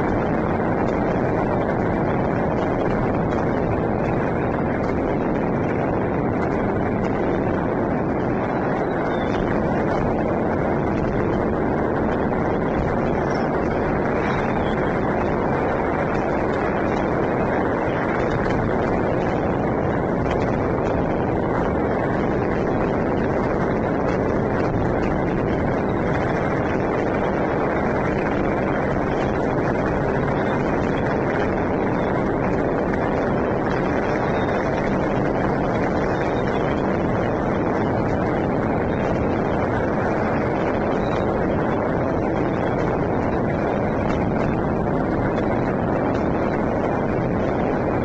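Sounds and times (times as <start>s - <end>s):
firecrackers and fireworks crackling: 0.0s - 48.0s.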